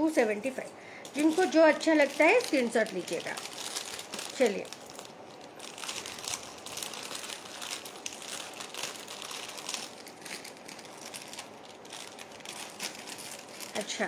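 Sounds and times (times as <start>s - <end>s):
packaging crinkling and rustling: 0.1s - 14.0s.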